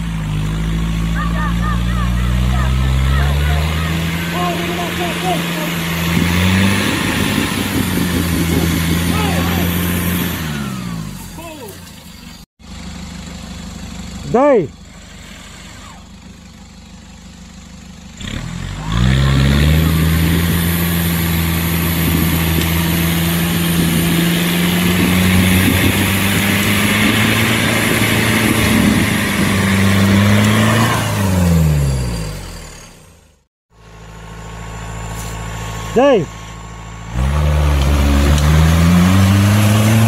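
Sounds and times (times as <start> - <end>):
buggy engine revving: 0.0 - 40.0.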